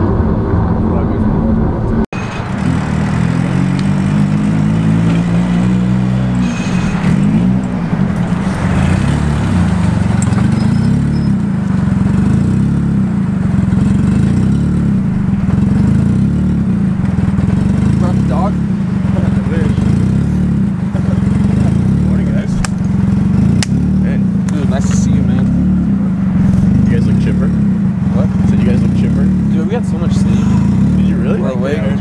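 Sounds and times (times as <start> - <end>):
car engine running slowly: 6.1 - 32.0.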